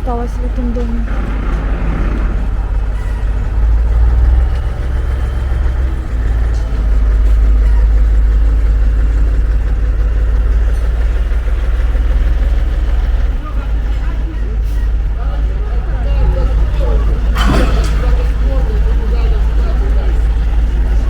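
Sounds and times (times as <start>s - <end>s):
passing vehicles rumbling: 0.0s - 21.0s.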